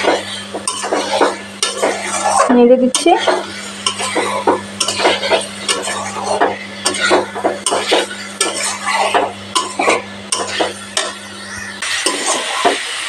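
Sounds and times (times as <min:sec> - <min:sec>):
spatula scraping metal pan: 0:00.0 - 0:12.8
light sizzle: 0:00.0 - 0:13.0.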